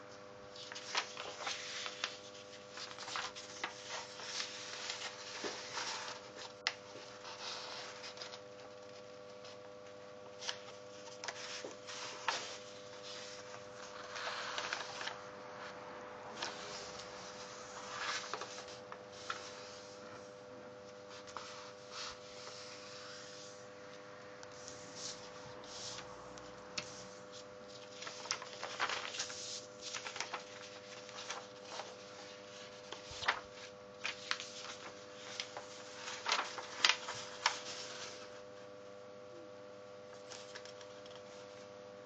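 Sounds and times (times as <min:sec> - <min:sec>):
steady hum: 0:00.0 - 0:42.0
paper rustling and creasing: 0:00.5 - 0:23.6, 0:24.4 - 0:38.5, 0:40.1 - 0:41.7.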